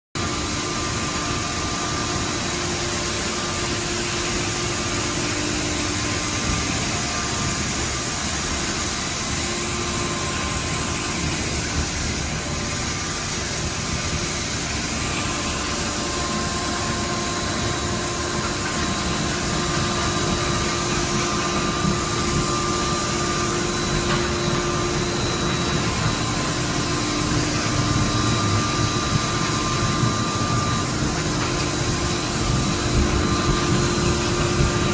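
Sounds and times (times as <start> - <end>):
faint machine whining tones: 0.2 - 34.9
machinery hum and rush: 0.2 - 34.9.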